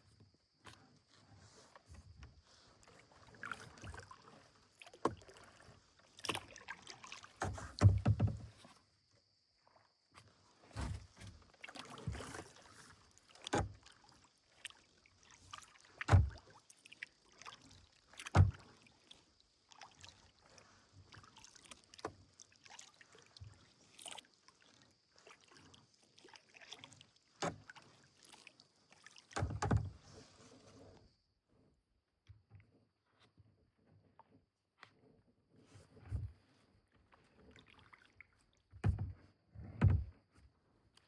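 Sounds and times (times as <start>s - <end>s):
paddle strokes in water: 0.0s - 41.0s.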